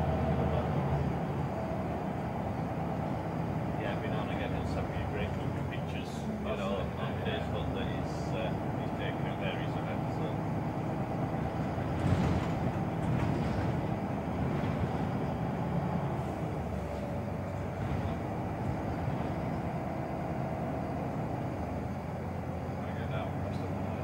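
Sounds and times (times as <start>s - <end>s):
bus body rattling: 0.0s - 24.0s
bus engine drone: 0.0s - 24.0s.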